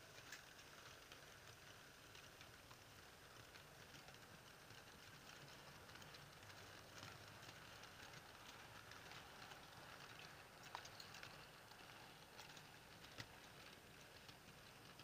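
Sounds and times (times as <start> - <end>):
model train wheels clicking on track: 0.0 - 15.0.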